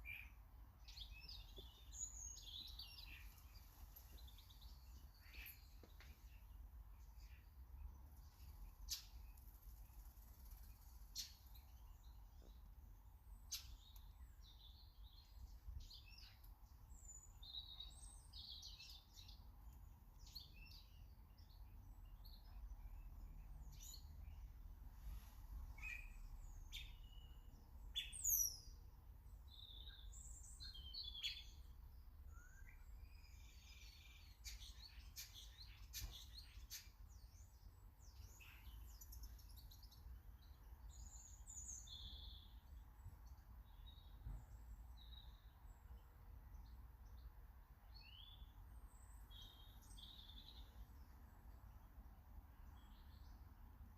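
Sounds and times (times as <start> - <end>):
garden birds chirping: 0.0 - 53.9.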